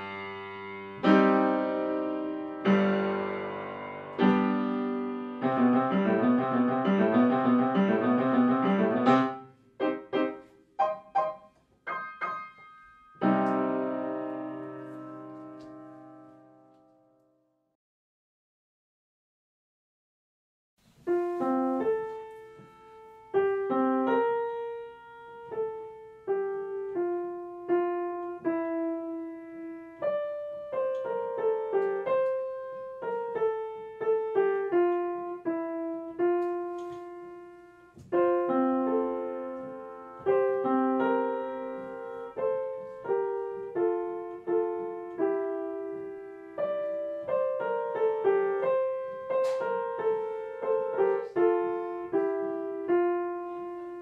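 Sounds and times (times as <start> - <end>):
gentle piano music: 0.0 - 17.4, 21.0 - 54.0.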